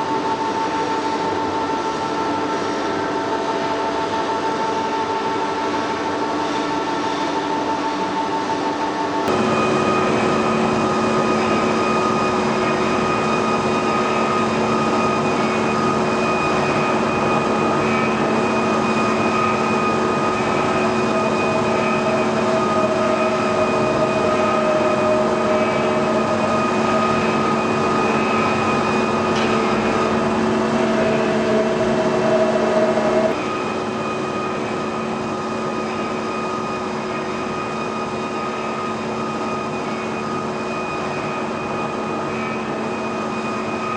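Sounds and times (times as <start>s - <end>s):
machine hum with tones: 0.0s - 43.9s.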